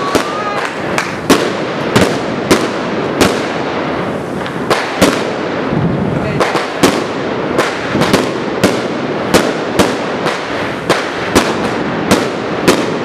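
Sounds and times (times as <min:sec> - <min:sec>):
firework bangs: 0:00.0 - 0:13.0
fireworks crackling: 0:00.0 - 0:13.0.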